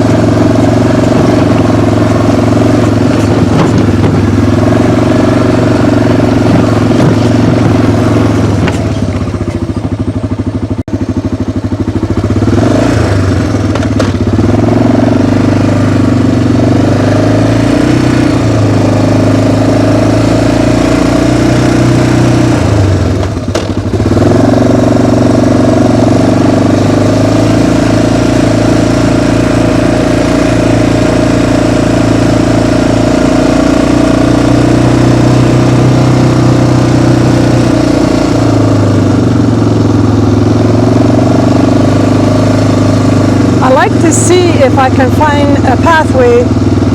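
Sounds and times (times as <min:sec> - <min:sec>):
small vehicle engine running: 0:00.0 - 0:46.9.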